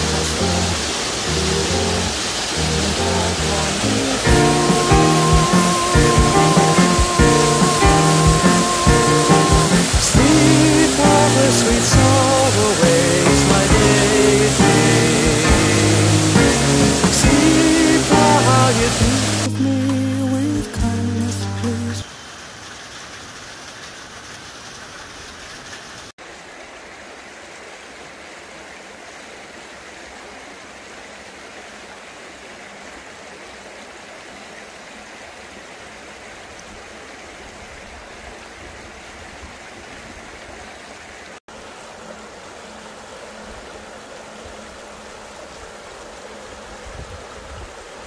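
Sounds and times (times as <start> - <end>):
stream splashing over rocks: 0.0 - 48.0.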